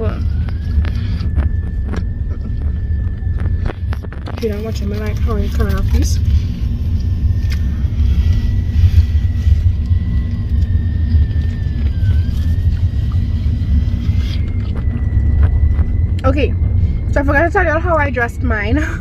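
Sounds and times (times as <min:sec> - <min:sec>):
car interior rumble: 0:00.0 - 0:19.0.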